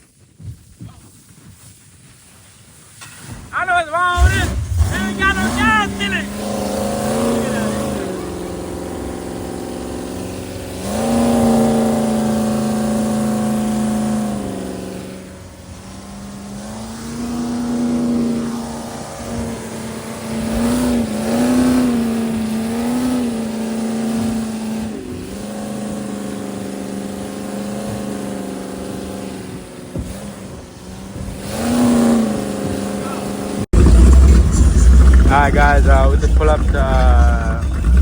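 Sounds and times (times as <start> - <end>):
engine running steadily: 4.2 - 38.0.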